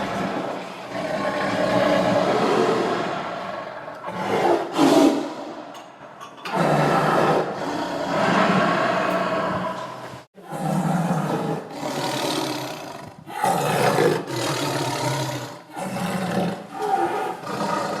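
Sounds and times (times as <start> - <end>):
tiger roaring: 0.2 - 5.6, 6.5 - 18.0.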